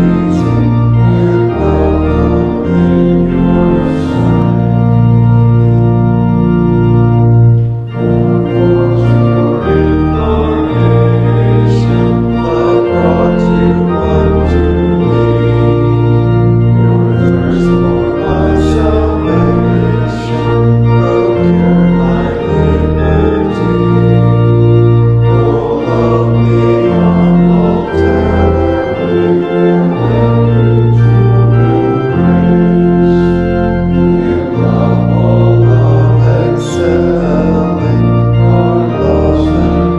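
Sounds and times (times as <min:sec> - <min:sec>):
organ playing slow chords: 0:00.0 - 0:39.9.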